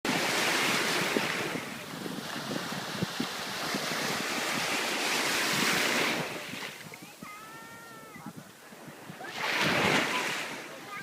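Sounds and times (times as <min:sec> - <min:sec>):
sea waves washing onto beach: 0:00.1 - 0:11.0
wind on microphone: 0:00.1 - 0:11.0.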